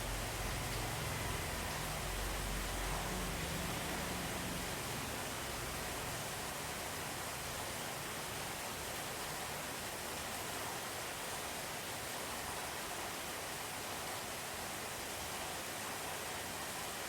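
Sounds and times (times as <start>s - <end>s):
steady rain heard indoors: 0.0s - 17.0s.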